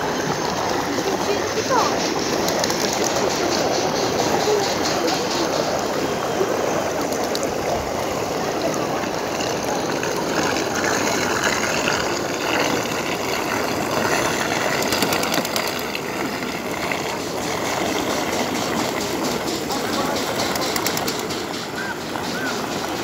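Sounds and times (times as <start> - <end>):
fountain water splashing: 0.0 - 23.0.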